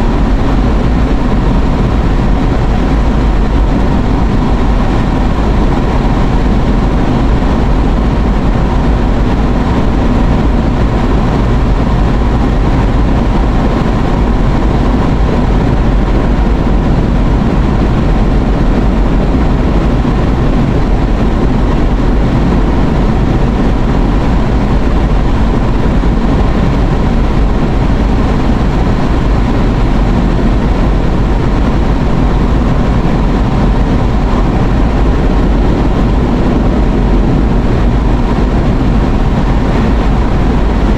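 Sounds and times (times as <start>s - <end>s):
car road and engine noise: 0.0s - 40.9s.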